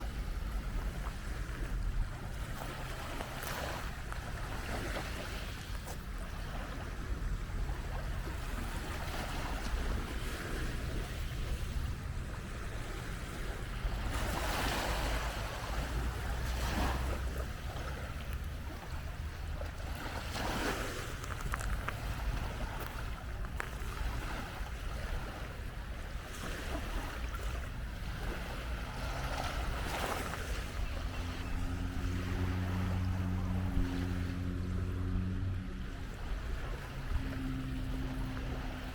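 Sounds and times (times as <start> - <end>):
waves breaking on beach: 0.0 - 38.9
wind buffeting microphone: 0.0 - 38.9.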